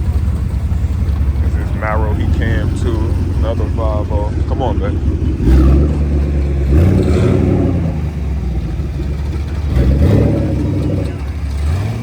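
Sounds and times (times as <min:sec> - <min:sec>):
car engine rumbling and revving: 0:00.0 - 0:12.0.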